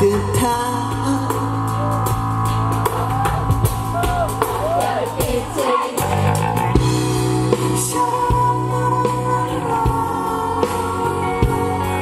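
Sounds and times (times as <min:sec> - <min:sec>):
drum kit beat: 0:00.0 - 0:12.0
guitars and bass: 0:00.0 - 0:12.0.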